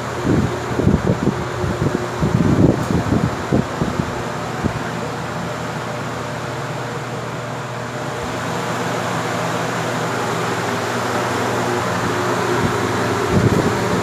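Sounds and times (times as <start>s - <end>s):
fan blades rushing air: 0.0s - 14.0s
low motor hum: 0.0s - 14.0s.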